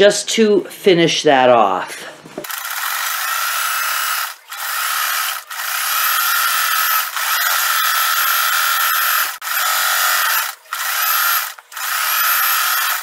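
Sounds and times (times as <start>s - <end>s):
electric sewing machine running: 2.4s - 13.0s.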